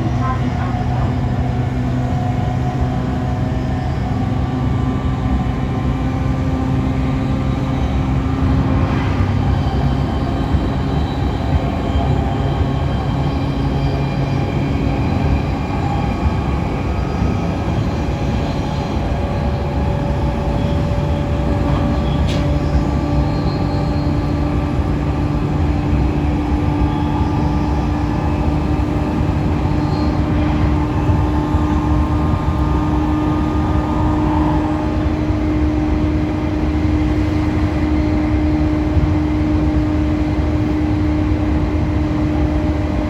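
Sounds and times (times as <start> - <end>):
train wheel and rail noise: 0.0 - 43.0.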